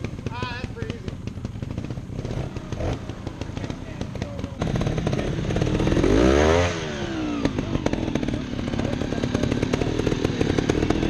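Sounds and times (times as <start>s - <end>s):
crackling exhaust: 0.0s - 11.0s
motorcycle engine revving: 0.0s - 11.0s.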